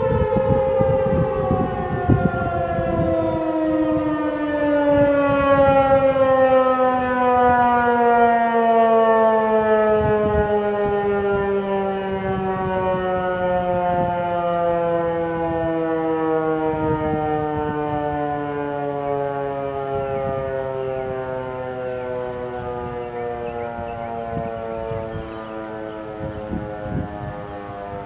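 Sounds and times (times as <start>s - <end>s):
warning siren winding down: 0.0s - 28.0s.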